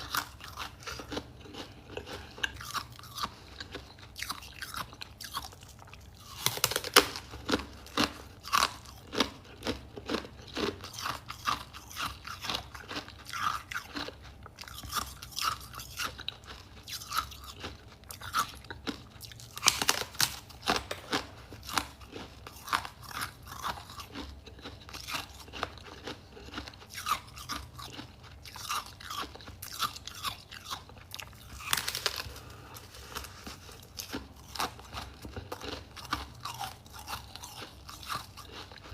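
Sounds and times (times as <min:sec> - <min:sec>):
person crunching frost: 0:00.0 - 0:38.9.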